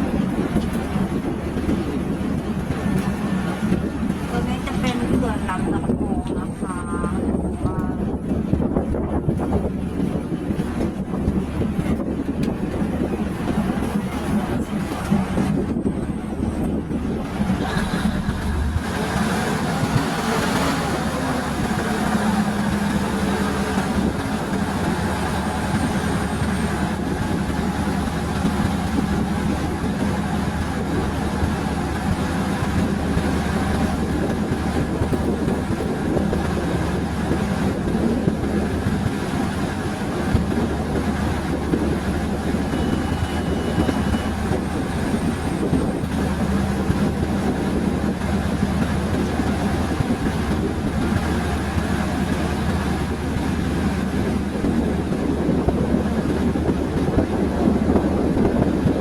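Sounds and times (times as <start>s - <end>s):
low engine hum: 0.0s - 59.0s
train wheels rumbling on rail: 0.0s - 59.0s.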